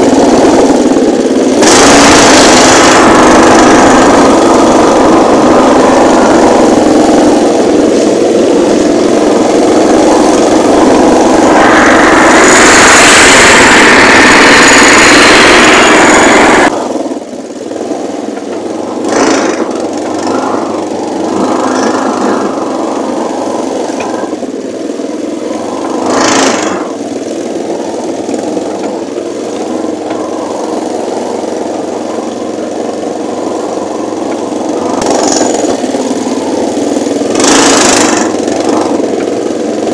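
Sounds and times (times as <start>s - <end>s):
rushing noise: 0.0s - 39.9s
small engine running: 0.0s - 39.9s.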